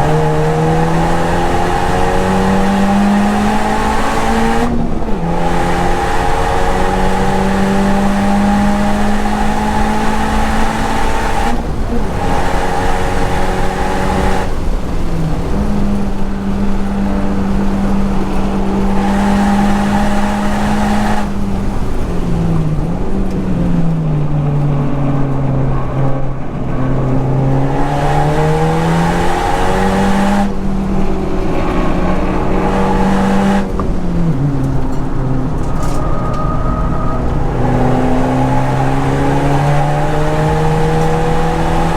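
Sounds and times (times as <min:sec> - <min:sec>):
car engine revving hard: 0:00.0 - 0:23.4, 0:26.2 - 0:41.9.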